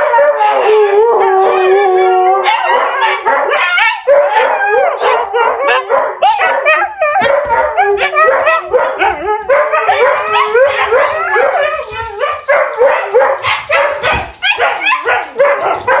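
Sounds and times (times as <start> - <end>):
huskies howling and yipping: 0.0 - 16.0.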